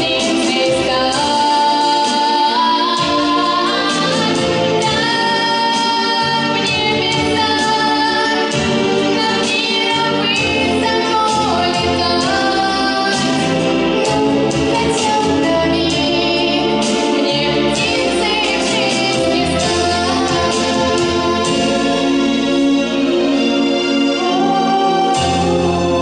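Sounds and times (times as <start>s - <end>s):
girl singing into microphone: 0.0s - 13.4s, 14.0s - 21.8s
backing track with steady beat: 0.0s - 26.0s.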